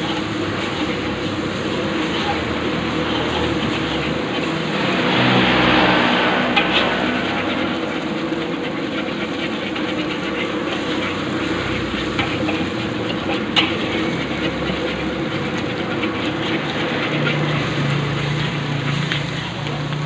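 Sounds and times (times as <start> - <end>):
metal spatula scraping a wok: 0.0 - 19.9
frying hiss: 0.0 - 20.0.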